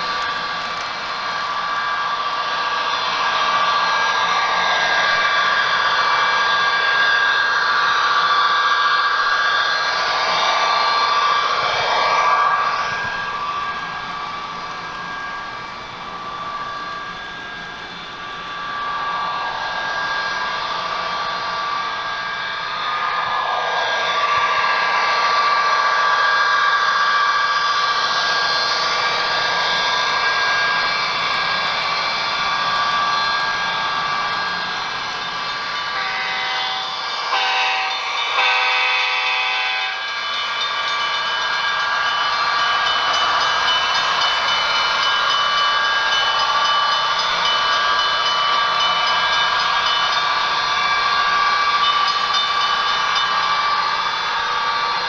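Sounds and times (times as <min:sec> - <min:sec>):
model train whirring hum: 0:00.0 - 0:55.0.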